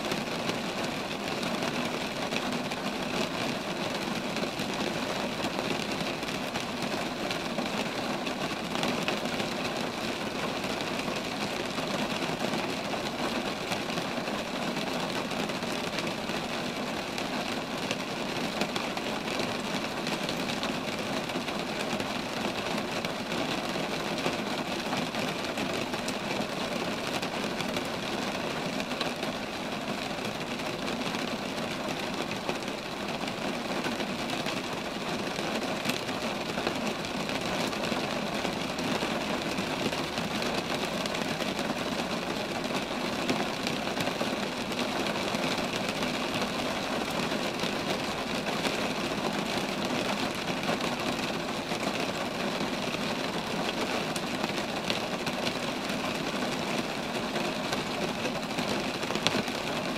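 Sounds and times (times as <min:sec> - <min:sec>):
rain on trees: 0:00.0 - 0:59.9.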